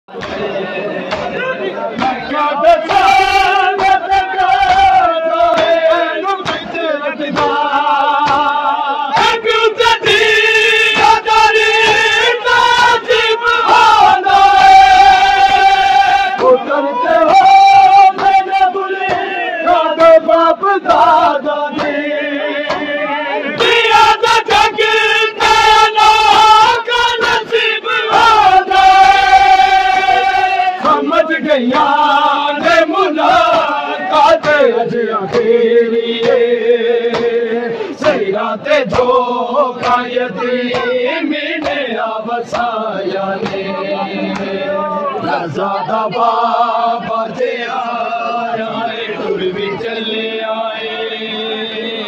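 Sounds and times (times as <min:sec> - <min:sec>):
crowd beating chests: 0:00.1 - 0:52.0
men chanting: 0:00.1 - 0:52.0.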